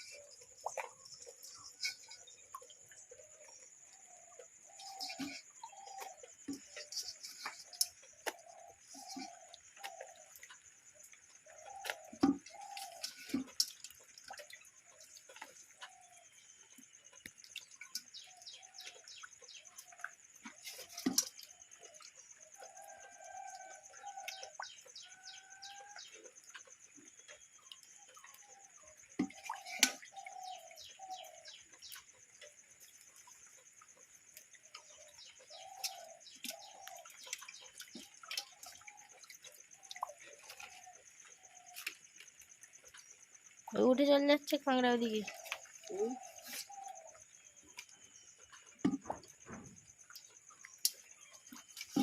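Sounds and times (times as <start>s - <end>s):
birds calling: 0.0s - 16.4s, 17.2s - 34.0s, 34.6s - 42.0s, 45.0s - 52.0s.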